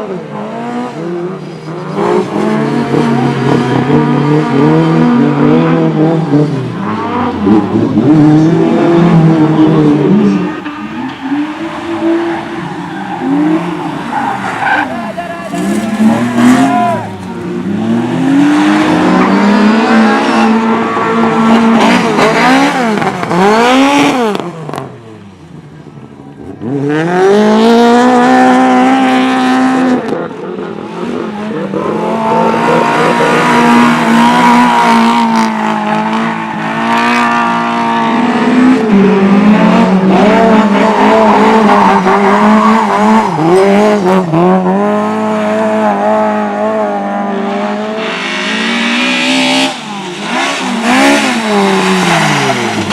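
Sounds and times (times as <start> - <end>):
racing engines revving: 0.0 - 52.9.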